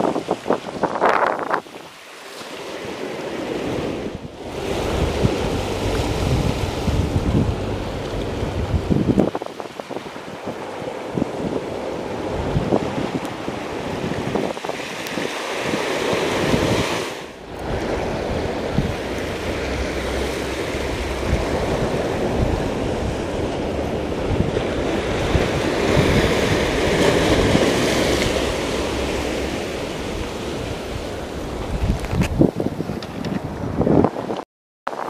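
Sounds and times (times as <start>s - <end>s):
wind buffeting microphone: 0.0s - 2.0s, 3.2s - 35.0s
surf washing over rocks: 0.0s - 35.0s.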